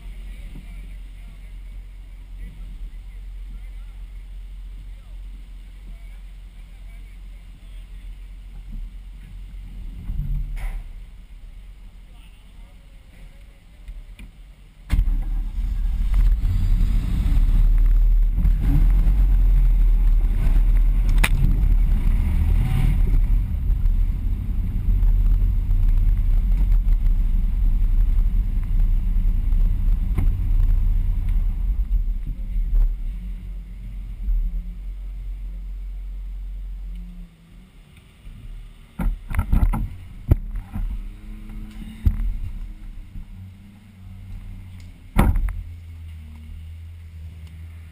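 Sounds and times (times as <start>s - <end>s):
vehicle engine rumble: 0.0s - 47.9s.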